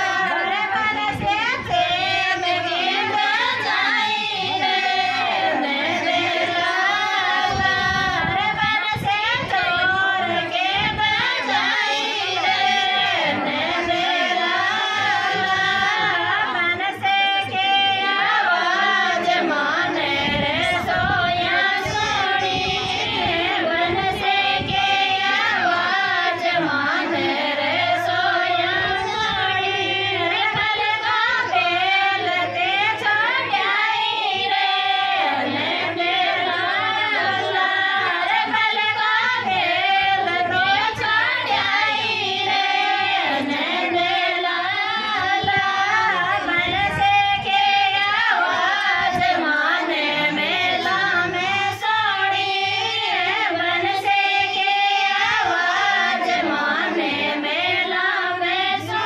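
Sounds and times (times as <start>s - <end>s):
women singing devotional song: 0.0s - 59.0s.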